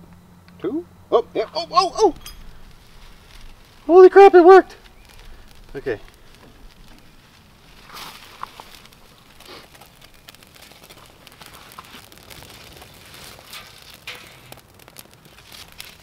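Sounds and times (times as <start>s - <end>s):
grass and twigs fire crackling: 0.0s - 16.0s
dry twigs rustling: 1.4s - 16.0s.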